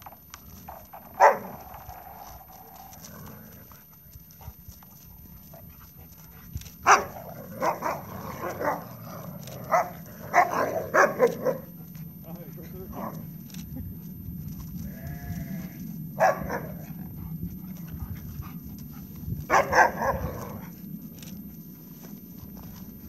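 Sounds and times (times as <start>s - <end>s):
dogs barking: 0.6s - 13.4s, 16.0s - 22.8s.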